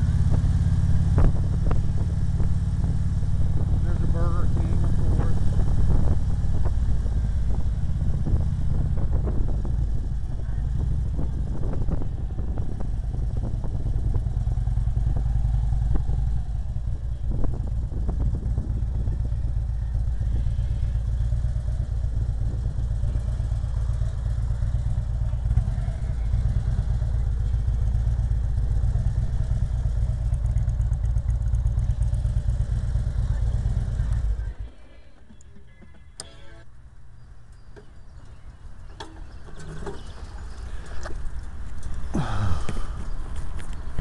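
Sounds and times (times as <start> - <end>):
motorcycle engine running: 0.0 - 36.6, 37.6 - 44.0.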